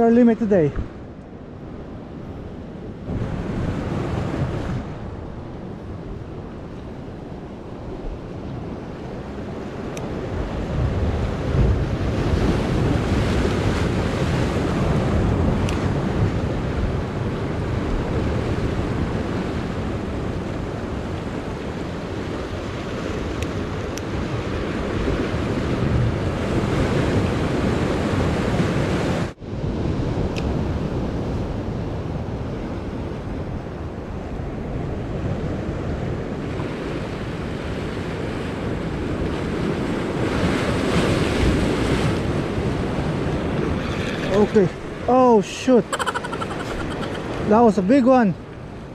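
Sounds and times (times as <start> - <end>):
wind buffeting microphone: 0.0 - 45.1
ocean surf against rocks: 0.0 - 48.9.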